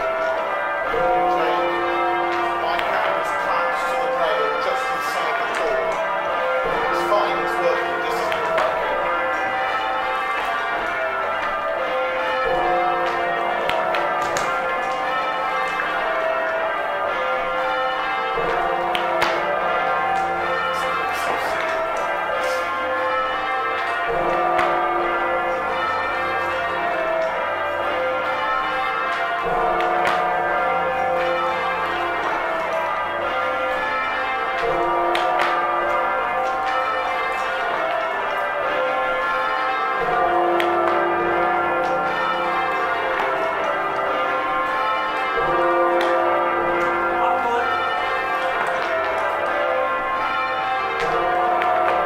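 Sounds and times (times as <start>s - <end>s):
church bells ringing: 0.0s - 52.0s
deep low bell: 0.0s - 52.0s.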